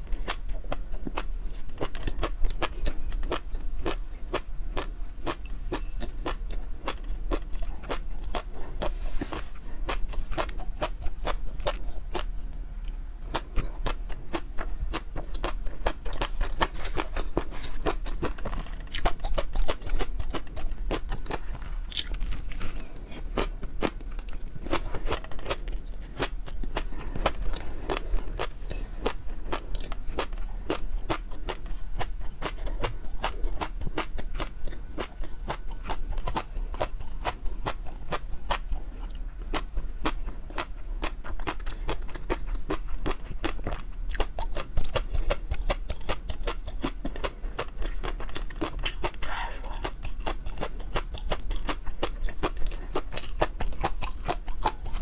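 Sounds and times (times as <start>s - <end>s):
person chewing with crackles: 0.0s - 55.0s.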